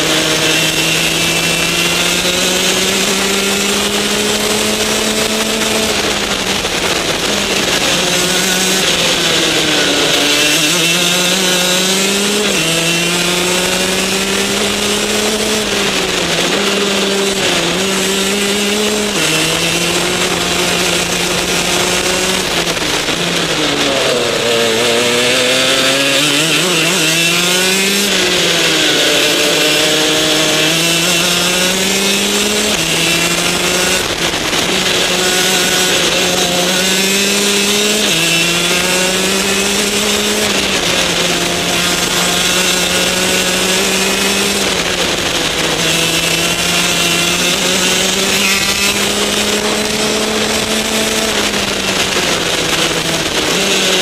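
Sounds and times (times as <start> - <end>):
kart engine at racing speed: 0.0 - 54.0.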